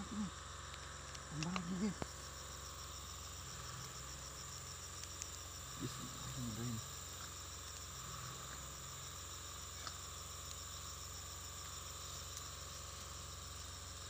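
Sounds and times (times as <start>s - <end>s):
high pulsing insect call: 0.0s - 14.0s
insects chorus: 0.0s - 14.0s.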